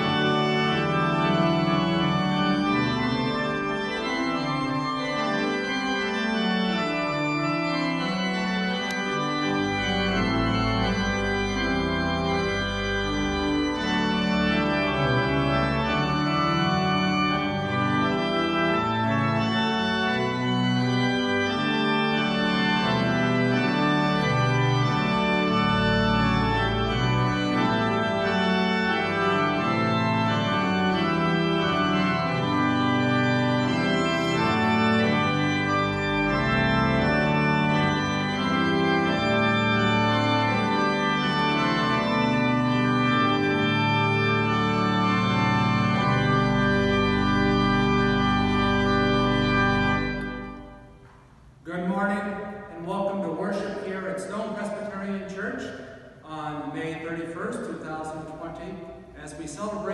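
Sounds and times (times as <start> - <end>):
organ chords: 0.0 - 59.9.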